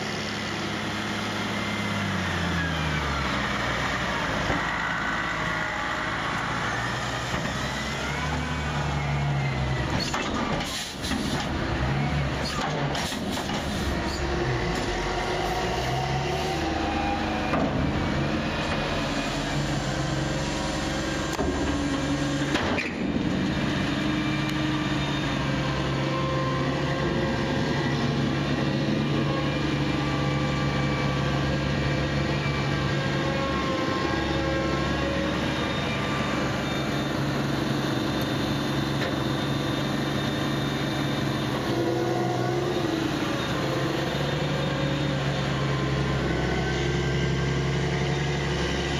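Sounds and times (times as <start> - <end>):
tractor diesel engines droning: 0.0 - 48.9.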